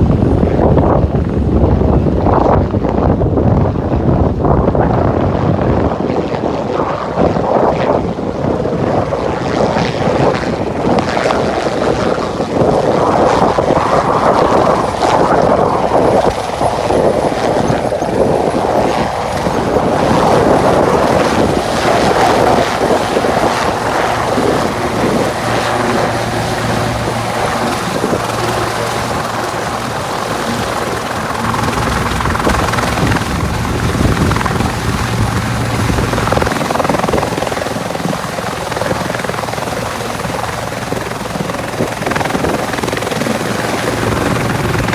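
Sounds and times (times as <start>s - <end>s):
helicopter engine and rotor noise: 0.0s - 44.9s.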